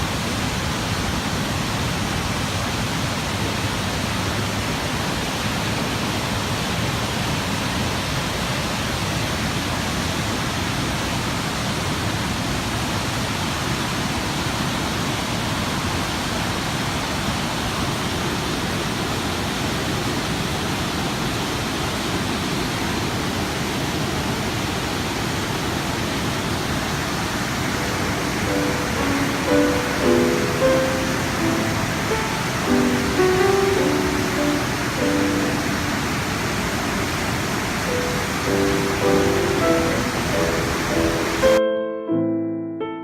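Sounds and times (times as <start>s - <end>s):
river rushing: 0.0s - 41.6s.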